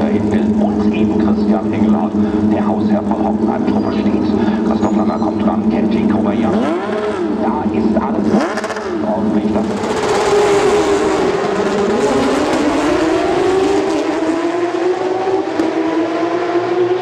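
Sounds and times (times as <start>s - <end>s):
race cars passing by: 0.0s - 17.0s.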